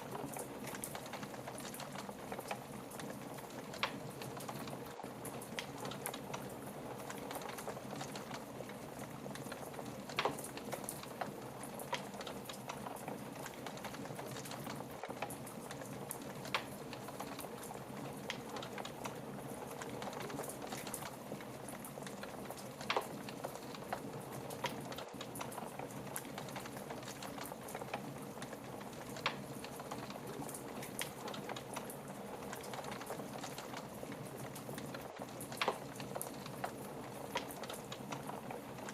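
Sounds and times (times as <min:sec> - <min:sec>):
fire crackling in fireplace: 0:00.0 - 0:38.9.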